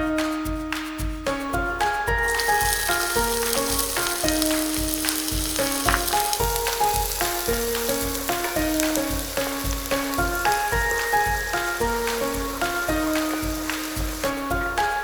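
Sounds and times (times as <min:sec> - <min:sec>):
background music with beat: 0:00.0 - 0:15.0
food sizzling in hot oil: 0:02.1 - 0:15.0.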